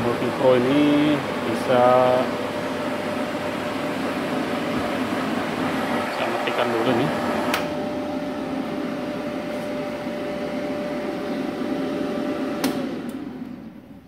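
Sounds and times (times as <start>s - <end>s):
welder fans and pump humming: 0.0s - 14.0s.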